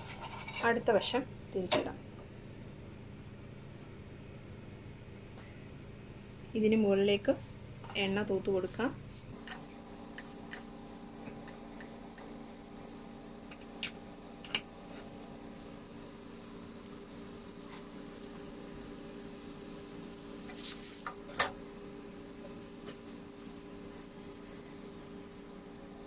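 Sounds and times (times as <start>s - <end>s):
faint kitchen hum: 0.0s - 26.0s.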